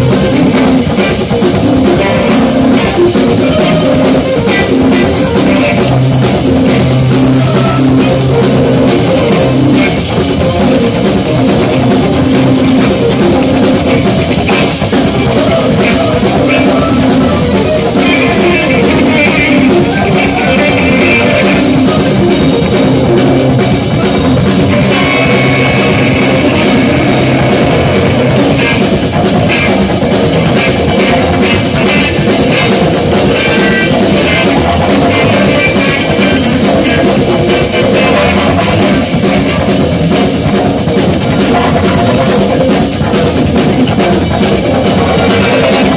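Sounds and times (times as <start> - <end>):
drum kit with cymbals: 0.0 - 45.9
electric bass: 0.0 - 45.9
electric guitar: 0.0 - 45.9.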